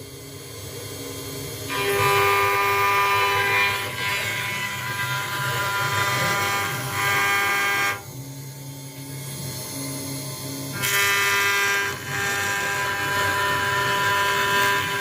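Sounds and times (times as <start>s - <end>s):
router spindle whine and hiss: 0.0s - 15.0s.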